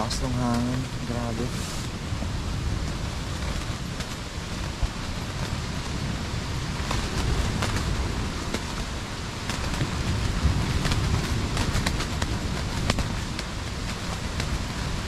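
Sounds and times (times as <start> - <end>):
gusting wind rumble: 0.0 - 15.0
rain tapping on tent: 0.0 - 15.0
tent fabric flapping: 0.0 - 15.0.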